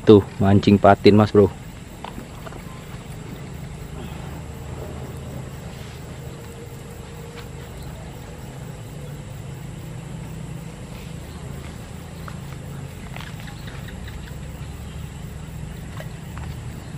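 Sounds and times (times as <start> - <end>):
motor running steadily: 0.0 - 16.9.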